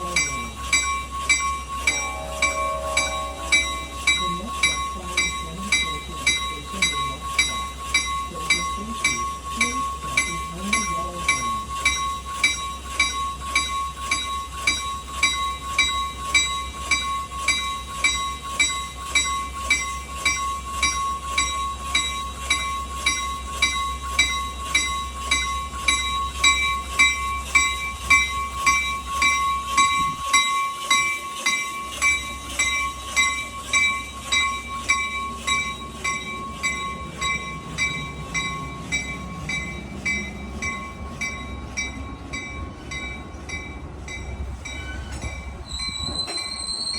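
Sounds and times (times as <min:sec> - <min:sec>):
locomotive bell ringing: 0:00.0 - 0:46.9
low train hum: 0:00.0 - 0:46.9.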